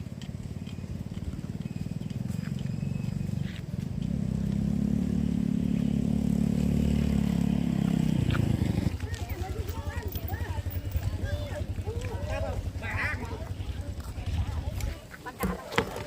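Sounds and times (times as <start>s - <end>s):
small engine pulsing: 0.0s - 14.8s.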